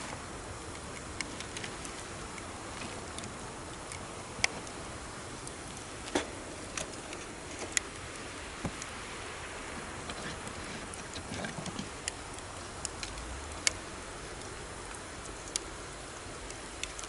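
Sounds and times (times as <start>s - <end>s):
campfire crackling and popping: 0.0s - 17.0s
river rushing: 0.0s - 17.0s.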